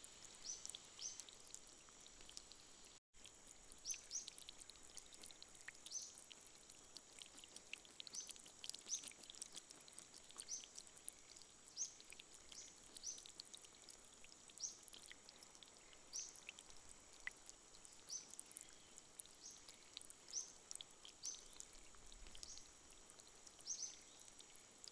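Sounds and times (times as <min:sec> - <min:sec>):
small drips: 0:00.0 - 0:24.9
soft hiss: 0:00.0 - 0:24.9.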